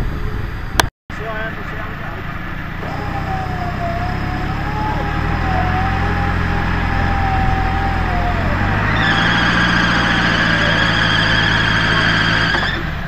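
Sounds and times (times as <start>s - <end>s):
engine running steadily: 0.0s - 13.0s
louder higher whine: 0.0s - 13.0s
wavering high whine: 1.2s - 13.0s.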